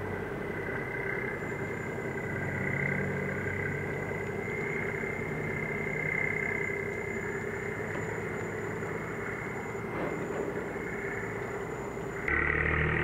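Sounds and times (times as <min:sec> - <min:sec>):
faint high whine: 0:00.0 - 0:13.0
ship engines humming: 0:00.0 - 0:13.0.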